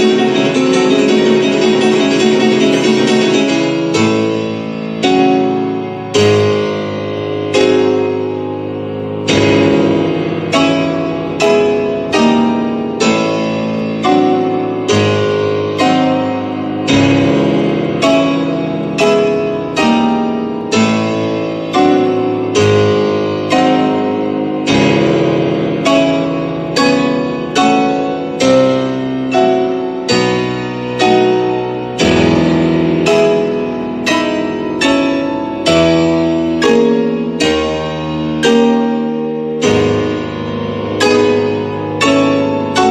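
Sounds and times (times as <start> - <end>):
piano chords: 0.0 - 42.9.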